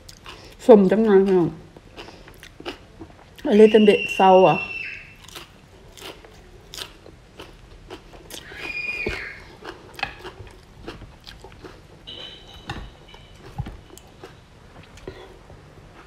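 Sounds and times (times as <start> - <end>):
chewing crisp greens: 0.0 - 3.6, 5.1 - 16.0.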